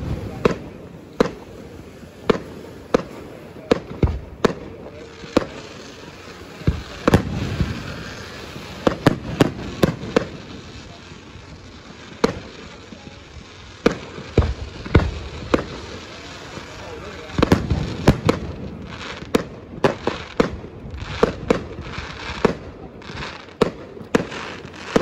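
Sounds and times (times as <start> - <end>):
fireworks bursting with sharp bangs: 0.0 - 25.0.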